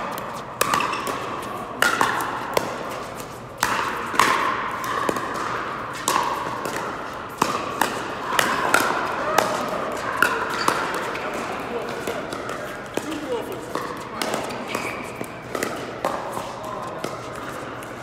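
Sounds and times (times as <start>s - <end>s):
paddles hitting plastic ball: 0.0s - 18.0s.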